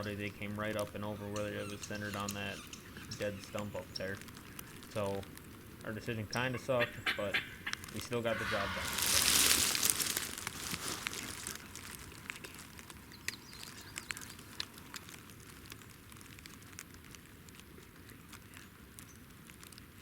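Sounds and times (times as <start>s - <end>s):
faint clicks and ticks: 0.0s - 8.2s, 11.2s - 20.0s
rustling and crackling: 0.0s - 20.0s.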